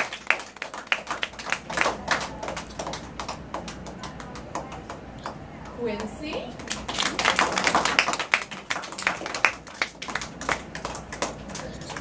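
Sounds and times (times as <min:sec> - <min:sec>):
group clapping: 0:00.0 - 0:12.0.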